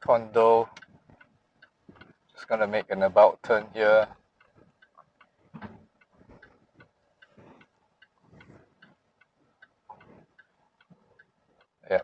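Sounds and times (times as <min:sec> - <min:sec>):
car turn signal ticking: 0:00.1 - 0:12.0.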